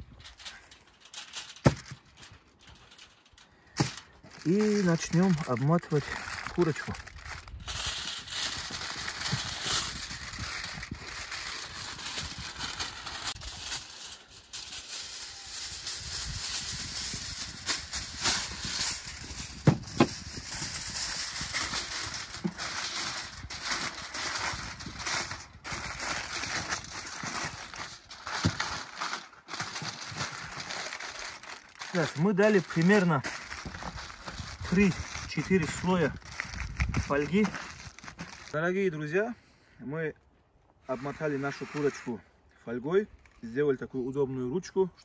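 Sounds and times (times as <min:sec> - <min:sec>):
aluminium foil crinkling: 0:00.0 - 0:38.6.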